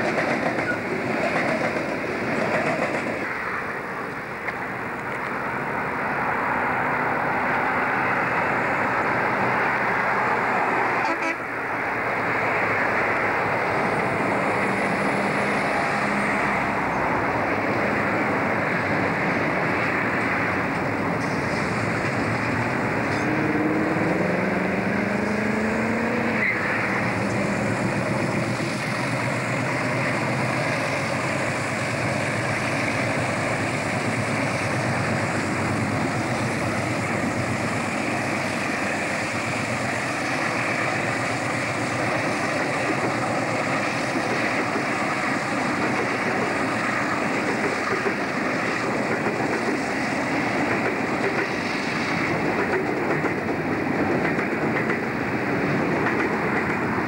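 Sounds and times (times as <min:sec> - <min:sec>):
diesel locomotive engines: 0:00.0 - 0:57.0.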